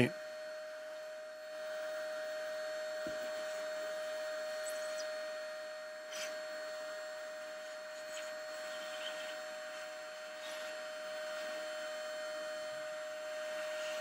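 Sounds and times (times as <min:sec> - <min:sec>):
vacuum cleaner whining: 0:00.0 - 0:14.0.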